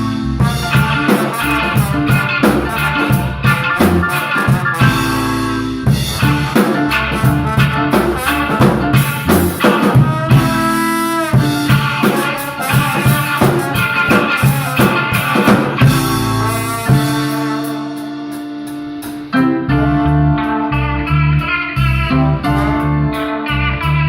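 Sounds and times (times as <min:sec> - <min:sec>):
electric guitar: 0:00.0 - 0:24.0
live instrumental band: 0:00.0 - 0:24.0.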